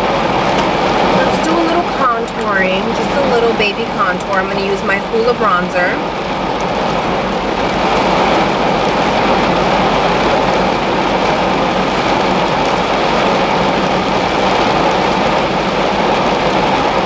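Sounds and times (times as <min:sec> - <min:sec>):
heavy rain on car roof: 0:00.0 - 0:17.0
low steady hum: 0:00.0 - 0:17.0.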